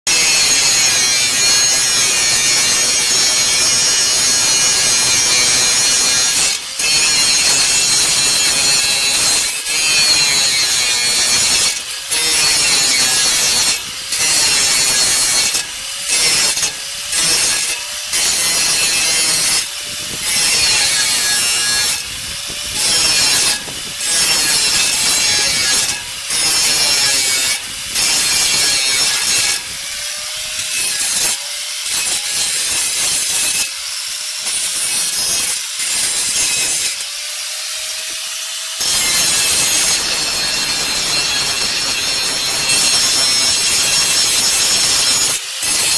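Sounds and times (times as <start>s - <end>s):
angle grinder cutting steel: 0.1s - 45.9s.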